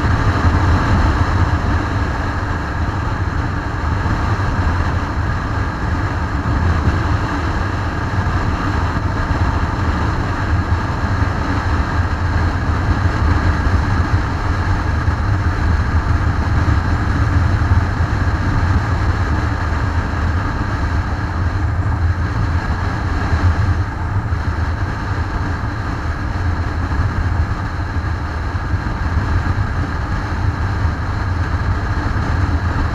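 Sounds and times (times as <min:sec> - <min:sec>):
motorcycle engine drone: 0:00.0 - 0:32.9
road noise: 0:00.0 - 0:32.9
wind noise: 0:00.0 - 0:32.9.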